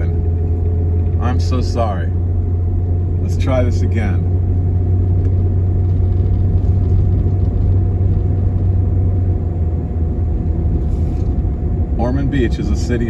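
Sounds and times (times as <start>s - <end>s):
faint steady hum: 0.0s - 13.0s
vehicle road rumble: 0.0s - 13.0s.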